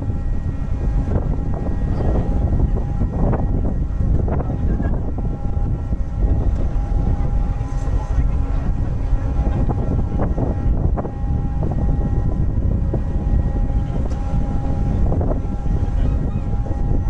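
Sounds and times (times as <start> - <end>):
ship engines rumbling: 0.0 - 17.0
wind buffeting microphone: 0.0 - 17.0.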